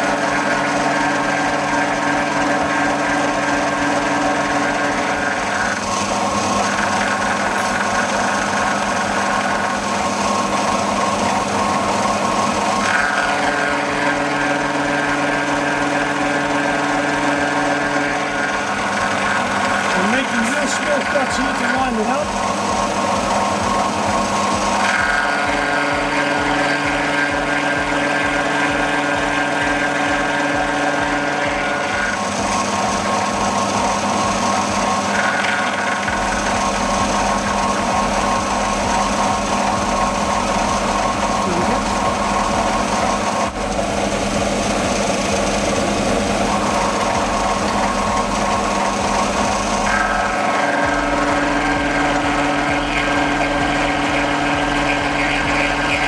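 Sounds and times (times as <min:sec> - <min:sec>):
milling machine motor and gear whine: 0:00.0 - 0:56.0.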